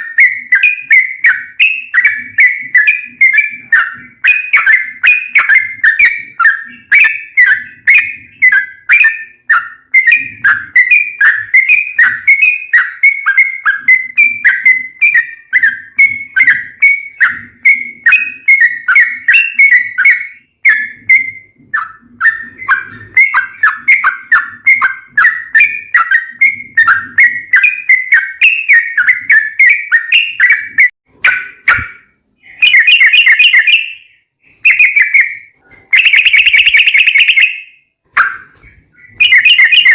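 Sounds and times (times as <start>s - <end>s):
bird song whistled notes: 0.0s - 39.9s.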